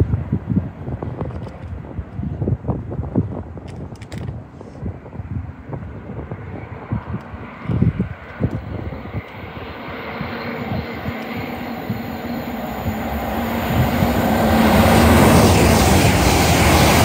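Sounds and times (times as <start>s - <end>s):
train rumble and rail noise: 0.0s - 17.0s.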